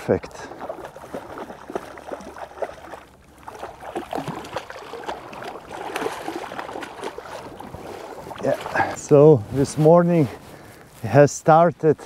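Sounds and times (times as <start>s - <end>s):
river water sloshing and splashing: 0.0s - 10.8s.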